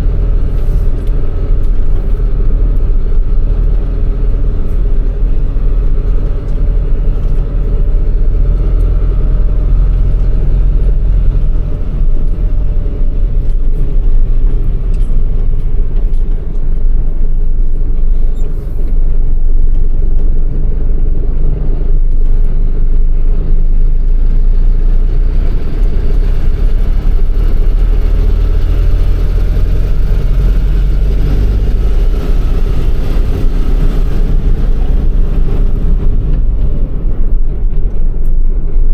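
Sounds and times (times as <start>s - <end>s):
truck diesel engine rumbling: 0.0s - 38.9s.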